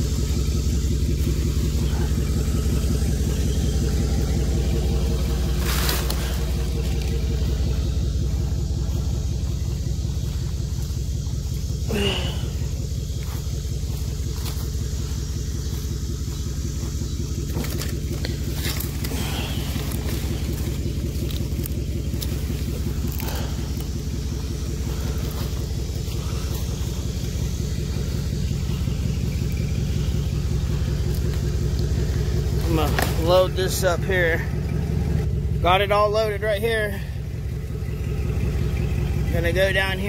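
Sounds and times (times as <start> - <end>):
dry palm fronds crackling: 0.0 - 35.3
truck engine idling: 0.0 - 40.0.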